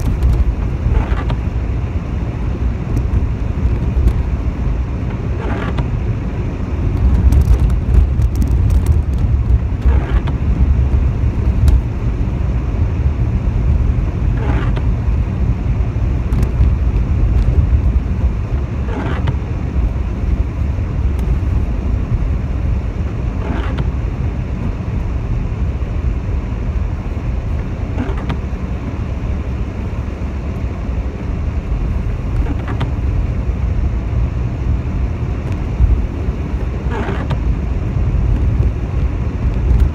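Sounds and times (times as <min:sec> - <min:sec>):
engine and tyres on wet road: 0:00.0 - 0:39.9
windscreen wipers swishing: 0:00.0 - 0:39.9.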